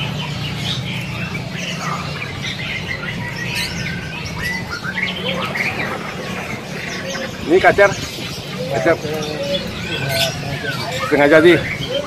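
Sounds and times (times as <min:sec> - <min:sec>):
bird squawks: 0:00.0 - 0:12.0
songbirds chirping and whistling: 0:00.0 - 0:12.0.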